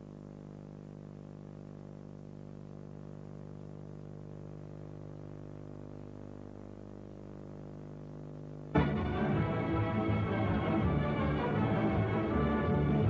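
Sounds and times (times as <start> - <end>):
electrical mains hum: 0.0 - 13.0
tape hiss: 0.0 - 13.0.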